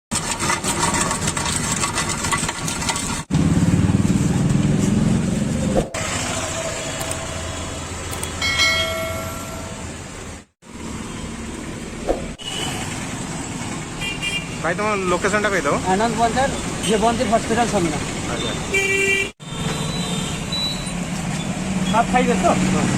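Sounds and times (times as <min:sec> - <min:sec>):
vehicle engines running: 0:00.2 - 0:18.7.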